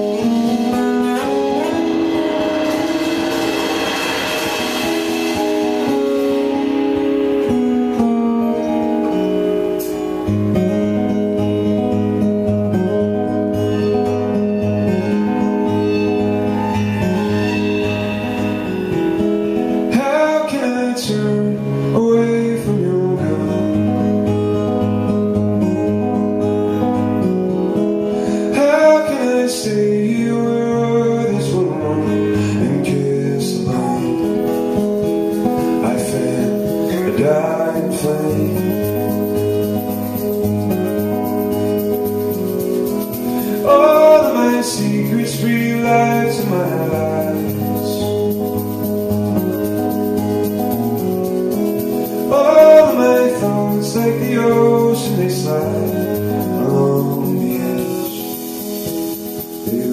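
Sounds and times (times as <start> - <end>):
acoustic guitar: 0.0 - 59.9.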